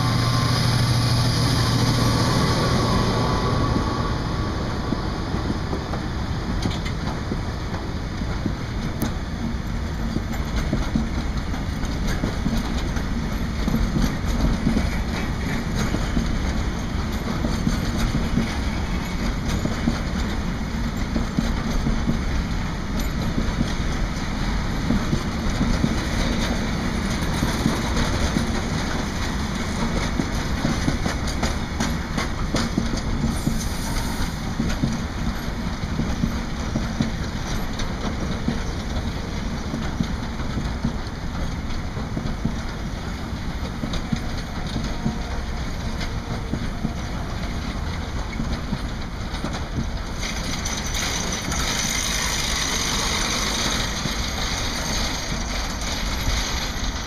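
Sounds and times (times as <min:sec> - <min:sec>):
freight train rolling past: 0:00.0 - 0:57.0
wheels clacking over rail joints: 0:00.0 - 0:57.0.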